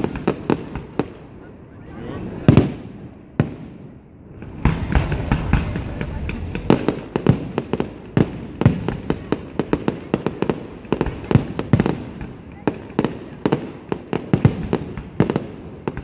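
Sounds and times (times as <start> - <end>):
fireworks bangs: 0.0 - 1.6, 2.2 - 16.0.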